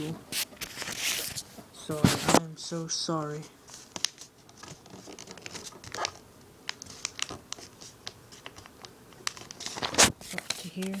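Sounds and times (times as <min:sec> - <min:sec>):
paper rustling and scratching: 0:00.3 - 0:02.4, 0:03.7 - 0:11.0.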